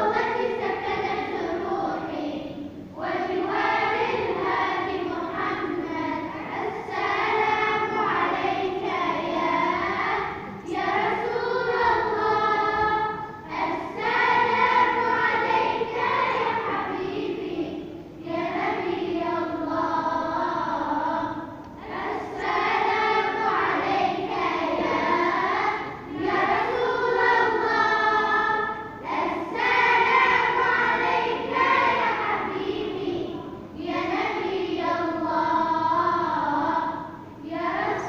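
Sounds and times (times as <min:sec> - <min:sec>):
group of voices singing: 0:00.0 - 0:38.0.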